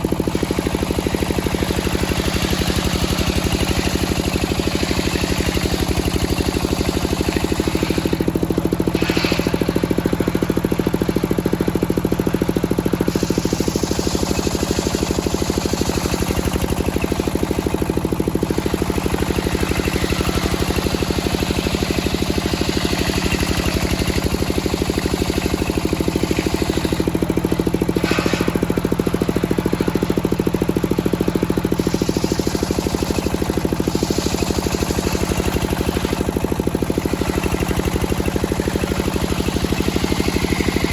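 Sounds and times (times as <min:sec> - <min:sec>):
circular sawmill sawing log: 0:00.0 - 0:40.9.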